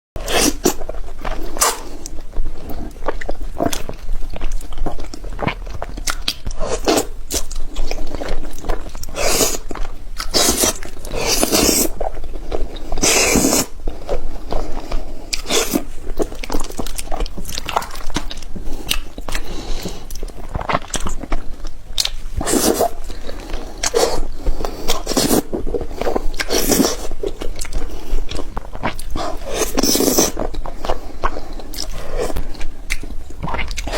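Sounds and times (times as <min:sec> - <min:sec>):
crunching and chewing: 0:00.2 - 0:33.9.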